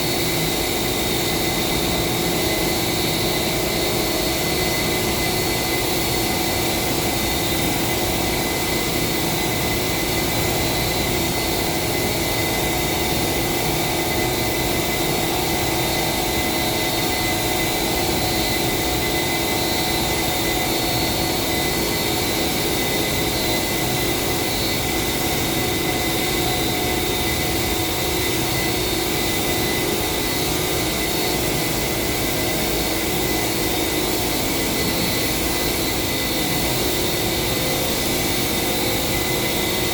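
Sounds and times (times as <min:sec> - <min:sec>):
machine whine over hiss: 0:00.0 - 0:39.9.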